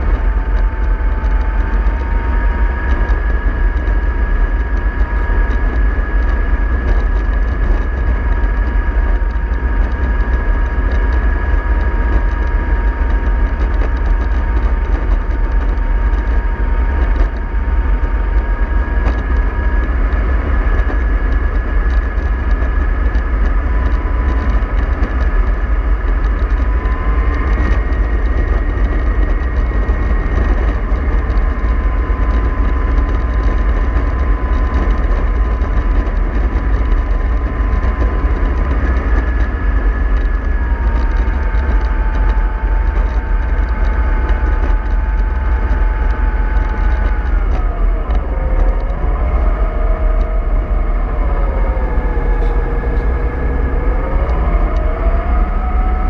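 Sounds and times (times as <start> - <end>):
bus running on road: 0.0 - 56.0
drivetrain whine: 0.0 - 56.0.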